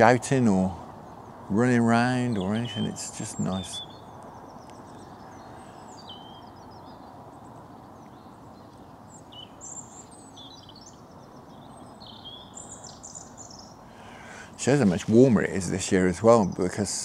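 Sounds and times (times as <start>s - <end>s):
distant road traffic rumble: 0.0s - 17.0s
small birds chirping: 0.0s - 17.0s.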